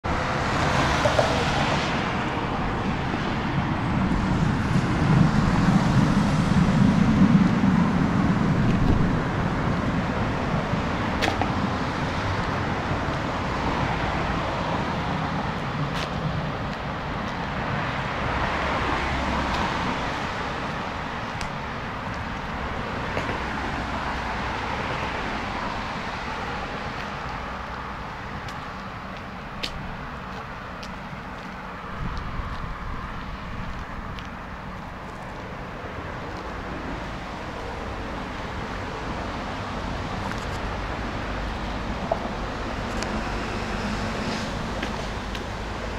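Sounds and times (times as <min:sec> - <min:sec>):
road traffic noise: 0:00.0 - 0:45.9.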